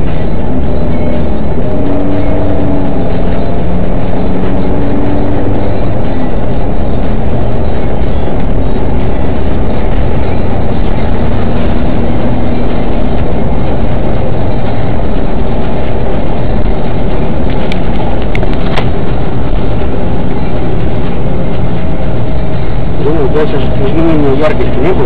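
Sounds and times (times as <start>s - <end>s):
car interior road and engine noise: 0.0s - 25.0s.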